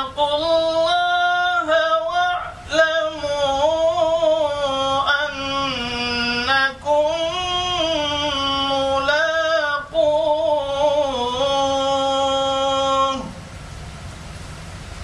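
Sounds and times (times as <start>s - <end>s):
man chanting melodically: 0.0s - 13.4s.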